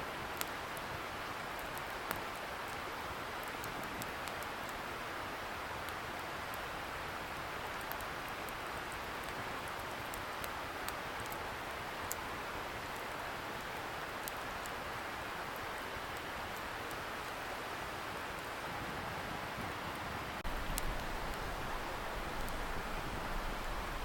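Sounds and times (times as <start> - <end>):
distant river hiss: 0.0 - 24.0
campfire crackling and popping: 0.3 - 17.5, 20.4 - 24.0.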